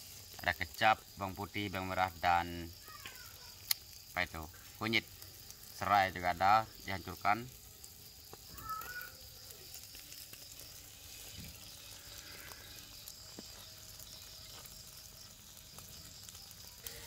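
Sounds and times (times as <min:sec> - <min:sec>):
fish sizzling on a grill: 0:00.0 - 0:17.0
small crackles: 0:00.0 - 0:17.0.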